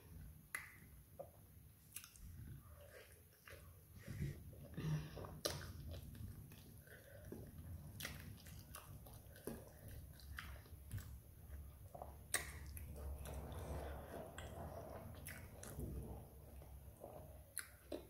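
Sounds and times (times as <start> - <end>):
low steady hum: 0.0 - 18.0
wet chewing and lip smacks: 0.5 - 3.8, 5.4 - 18.0.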